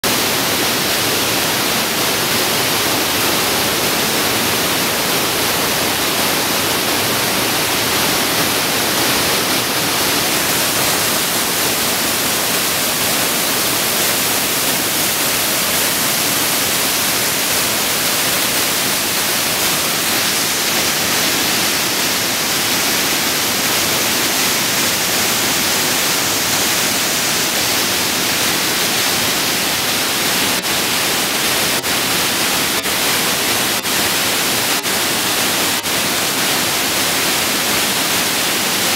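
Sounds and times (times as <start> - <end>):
water rushing over waterfalls: 0.0 - 38.9.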